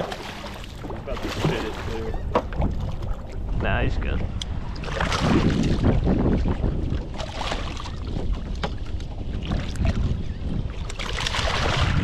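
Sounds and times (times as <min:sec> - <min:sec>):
water lapping at boat: 0:00.0 - 0:12.0
wind rumbling on microphone: 0:00.0 - 0:12.0.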